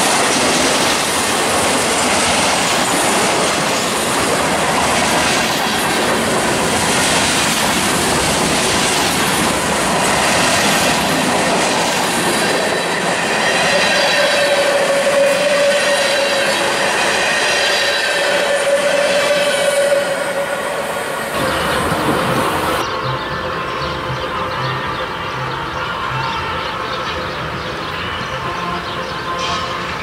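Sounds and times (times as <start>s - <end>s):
freight train rail clatter: 0.0s - 24.3s, 26.2s - 30.0s.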